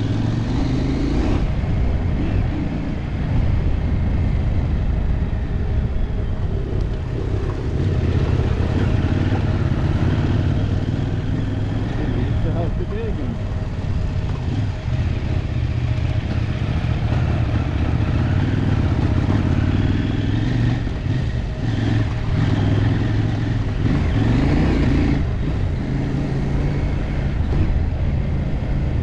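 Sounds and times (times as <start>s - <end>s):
motorcycle engine revving: 0.0s - 29.0s
wind and road noise: 0.0s - 29.0s.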